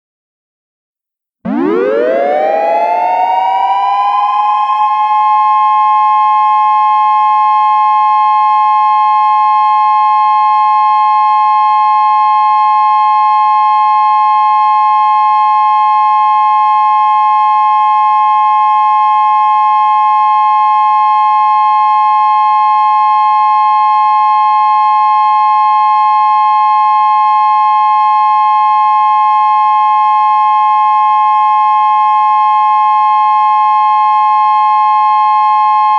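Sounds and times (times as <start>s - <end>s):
electronic siren dual tone: 1.4s - 35.9s.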